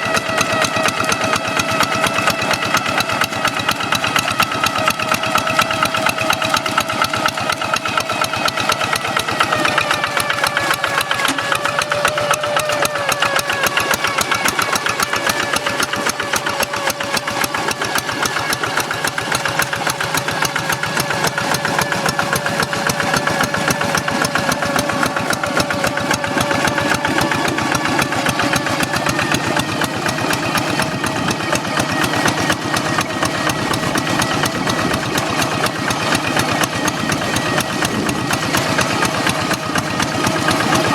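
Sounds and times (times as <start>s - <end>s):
diesel engine running with whine: 0.0s - 40.9s.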